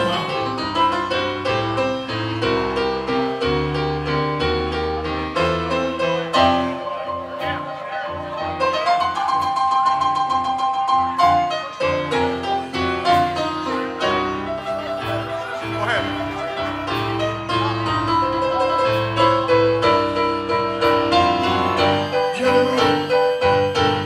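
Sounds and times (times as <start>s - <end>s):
stage piano runs and chords: 0.0s - 24.0s.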